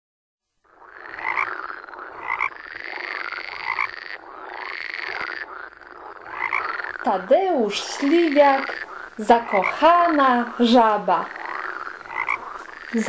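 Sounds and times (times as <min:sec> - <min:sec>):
frogs croaking: 0:00.5 - 0:13.0.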